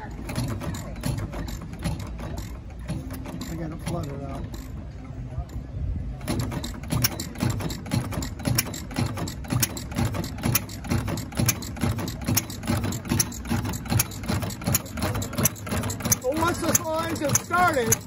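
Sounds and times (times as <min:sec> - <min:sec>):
light mechanical clicking: 0:00.0 - 0:18.0
single-cylinder engine chuffing: 0:00.0 - 0:18.0.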